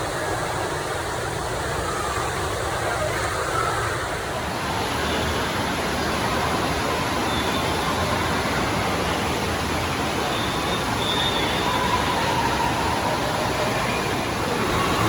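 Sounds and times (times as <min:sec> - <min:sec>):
echoing indoor water park din: 0:00.0 - 0:15.0
pouring water rushing: 0:00.0 - 0:15.0.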